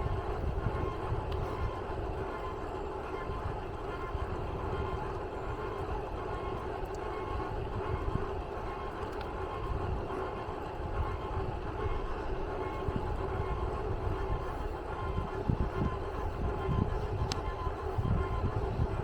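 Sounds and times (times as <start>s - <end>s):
faint steady tones: 0.0s - 19.0s.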